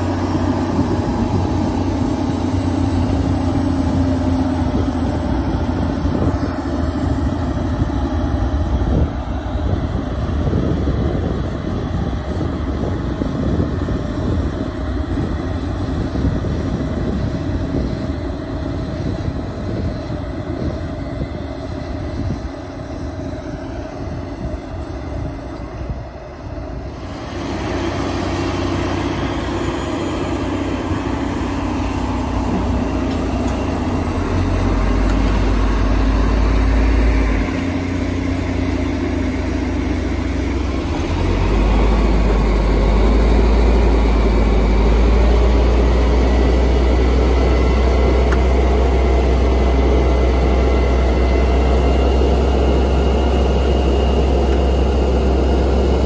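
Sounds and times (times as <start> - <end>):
heavy farm machinery engines running: 0.0 - 56.0.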